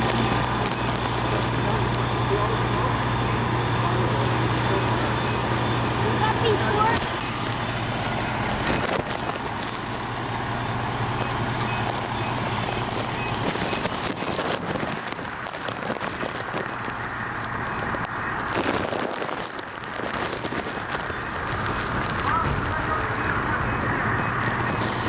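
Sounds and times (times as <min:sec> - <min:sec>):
continuous rushing noise: 0:00.0 - 0:25.0
engine low hum: 0:00.0 - 0:25.0.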